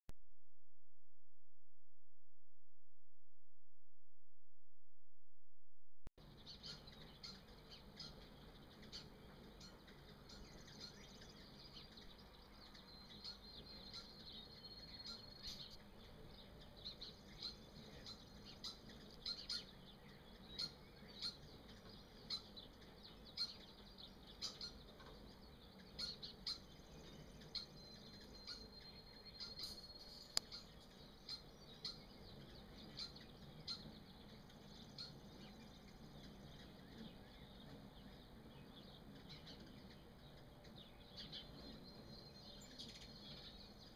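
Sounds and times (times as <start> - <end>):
high bird chirps: 6.2 - 43.9.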